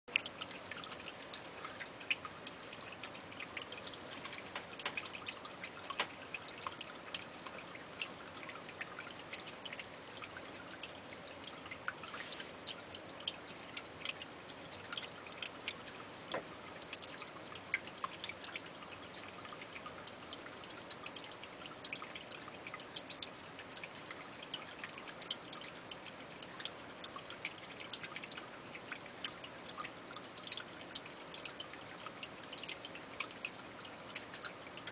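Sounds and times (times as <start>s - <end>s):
water drips and ticks: 0.1s - 34.9s
water trickling: 0.1s - 34.9s.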